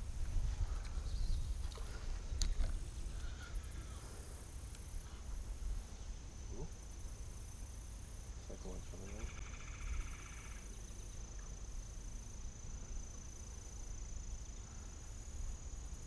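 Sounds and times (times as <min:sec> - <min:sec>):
insects calling: 0:00.0 - 0:16.0.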